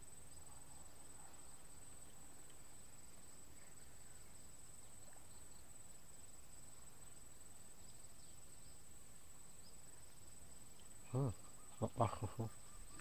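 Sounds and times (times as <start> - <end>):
crickets trilling: 0.0 - 13.0
low background hiss: 0.0 - 13.0.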